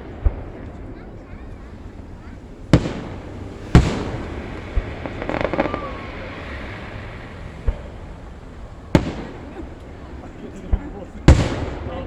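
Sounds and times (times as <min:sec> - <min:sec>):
firework booms: 0:00.0 - 0:12.0
firework crackling: 0:00.0 - 0:12.0.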